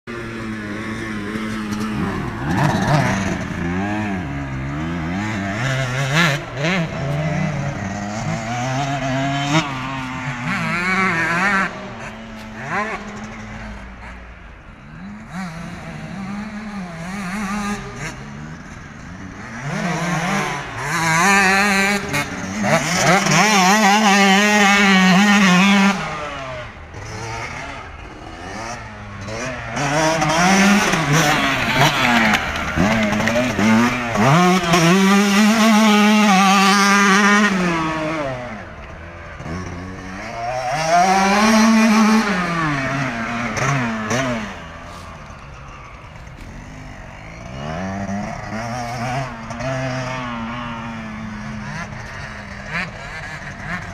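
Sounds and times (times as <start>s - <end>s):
motocross bike engine revving: 0.1s - 53.9s.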